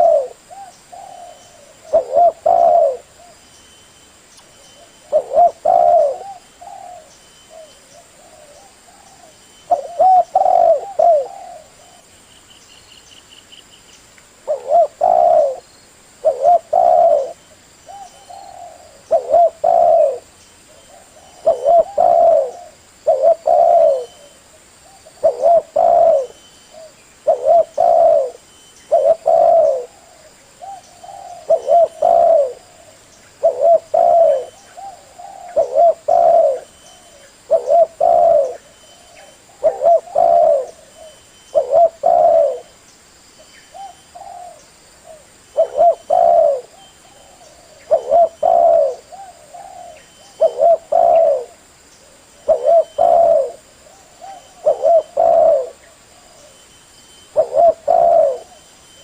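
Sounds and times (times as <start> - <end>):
dove cooing: 0.0 - 3.4, 4.8 - 12.1, 14.5 - 15.6, 16.2 - 42.7, 43.7 - 56.6, 57.2 - 59.0.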